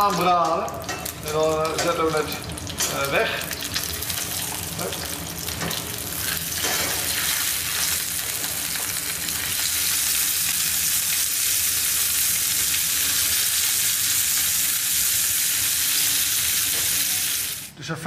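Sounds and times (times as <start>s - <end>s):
meat sizzling in a frying pan: 0.0s - 17.7s.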